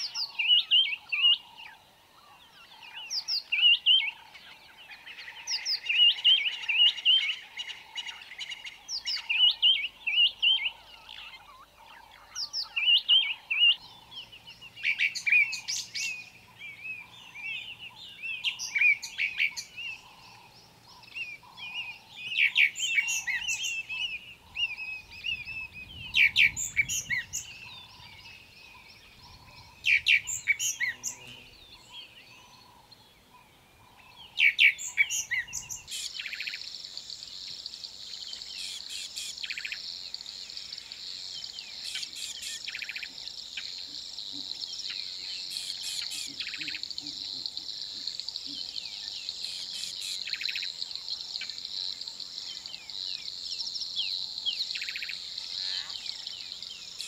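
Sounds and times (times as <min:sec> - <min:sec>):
wild birds chirping and singing: 0:00.0 - 0:57.0.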